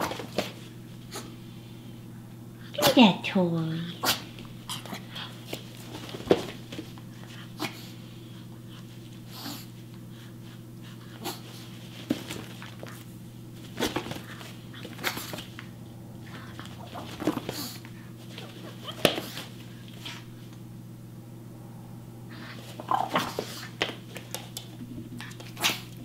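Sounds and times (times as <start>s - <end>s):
puppy scuffling and playing: 0.0s - 1.3s, 4.1s - 20.6s, 22.3s - 26.0s
low electrical hum: 0.0s - 26.0s.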